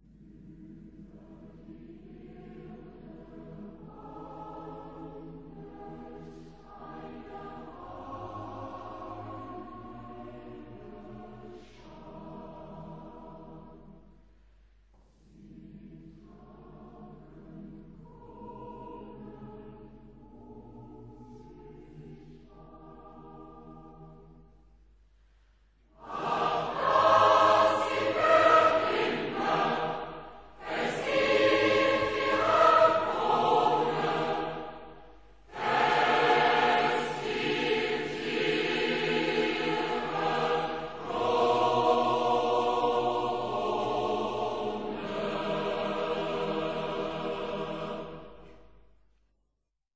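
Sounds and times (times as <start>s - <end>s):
choir singing a hymn: 0.0s - 14.3s, 15.0s - 24.6s, 25.9s - 48.7s.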